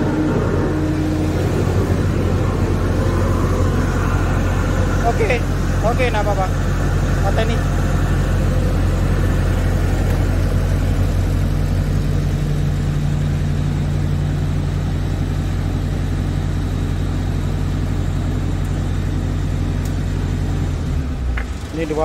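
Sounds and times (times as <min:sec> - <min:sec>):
dust collector motor humming: 0:00.0 - 0:22.0.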